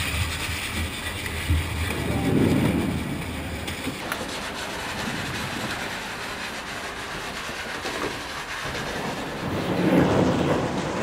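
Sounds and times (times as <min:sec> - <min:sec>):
machine grinding through concrete: 0:00.0 - 0:11.0.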